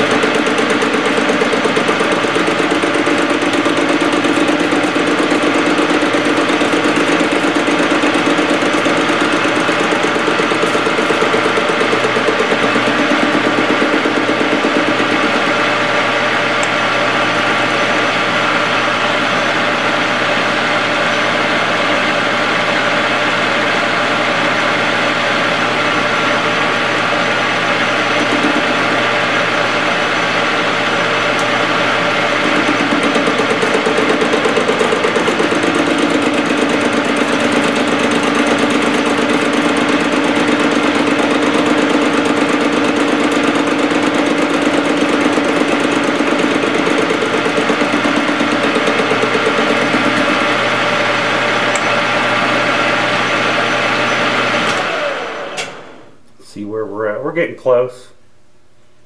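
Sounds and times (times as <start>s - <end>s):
lathe humming: 0.0s - 56.2s.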